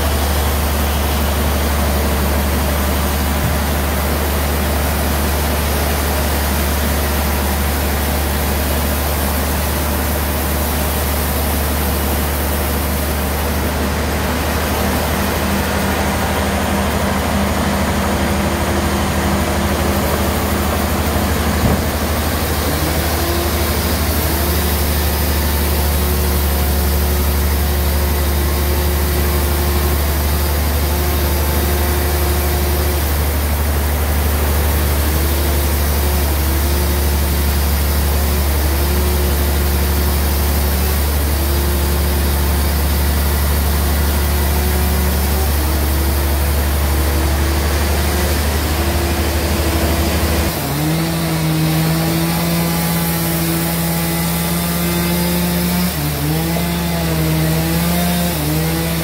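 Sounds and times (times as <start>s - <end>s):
bandsaw running with deep hum: 0.0s - 59.0s.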